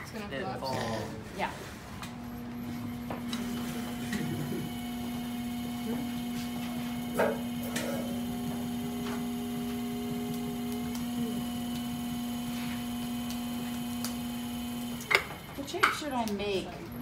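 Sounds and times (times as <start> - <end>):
potter's wheel motor humming: 2.0 - 17.0.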